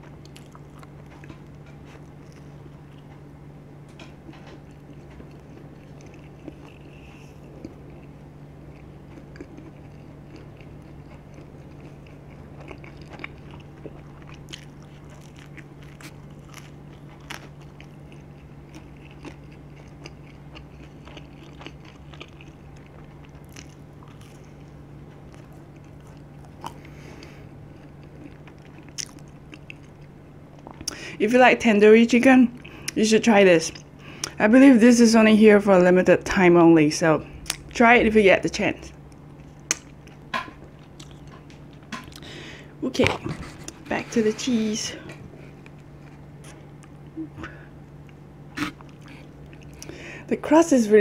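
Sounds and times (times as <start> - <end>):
chewing and crunching: 0.0 - 31.0, 38.8 - 50.0
low hum: 0.0 - 51.0.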